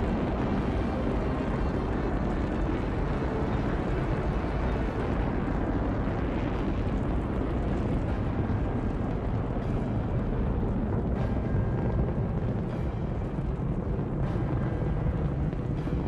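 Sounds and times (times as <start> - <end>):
rocket engines deep rumble: 0.0 - 16.0.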